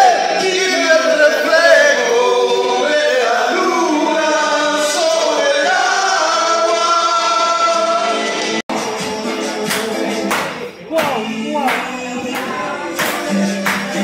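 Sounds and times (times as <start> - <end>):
people singing together: 0.0 - 14.0.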